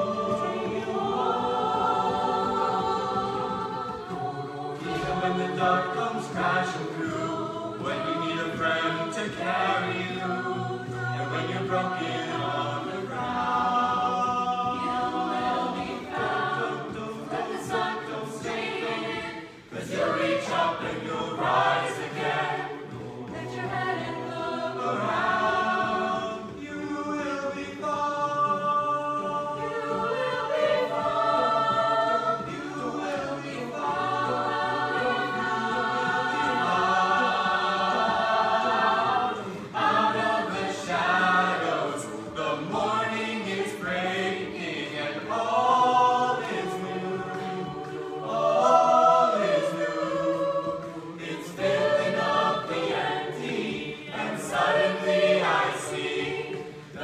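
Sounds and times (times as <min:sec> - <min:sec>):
a cappella group singing: 0:00.0 - 0:57.0.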